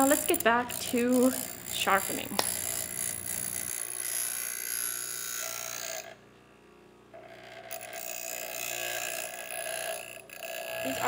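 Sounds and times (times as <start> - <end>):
bench grinder motor humming: 0.0 - 6.2, 7.2 - 11.0
metal blade grinding on wheel: 0.0 - 6.2, 7.2 - 11.0.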